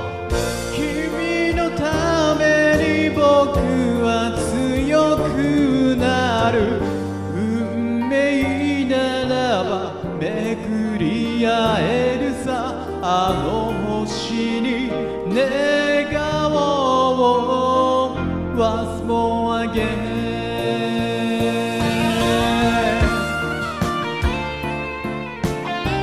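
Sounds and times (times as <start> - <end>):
man singing pop ballad: 0.0 - 24.8
karaoke backing track: 0.0 - 26.0.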